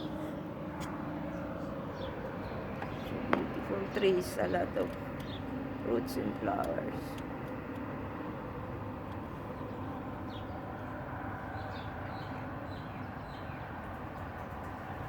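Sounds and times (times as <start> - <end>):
steady low background hum: 0.0 - 15.0.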